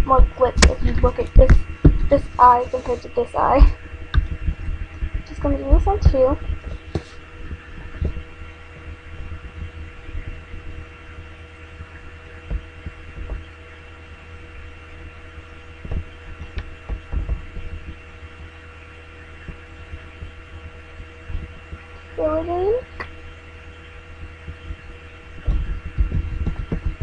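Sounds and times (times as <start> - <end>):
soft low thumps: 0.0 - 13.6, 14.3 - 18.6, 19.2 - 27.0
electrical hum: 0.0 - 27.0.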